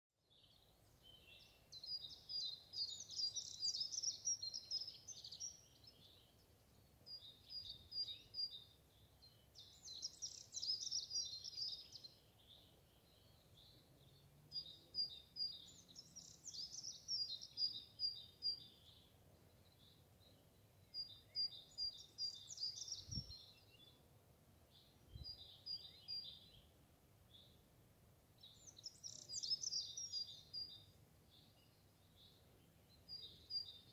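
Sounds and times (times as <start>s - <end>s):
small songbird singing: 0.2s - 33.9s.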